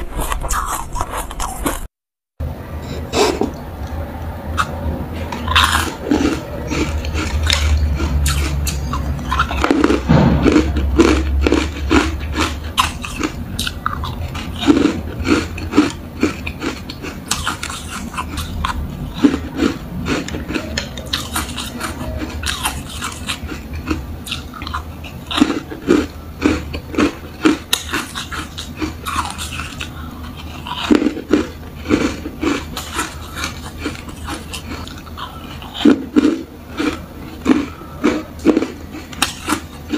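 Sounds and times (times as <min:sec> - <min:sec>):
crisp crunches of chewing: 0:00.0 - 0:01.9, 0:04.5 - 0:39.9
low steady hum: 0:00.0 - 0:39.9.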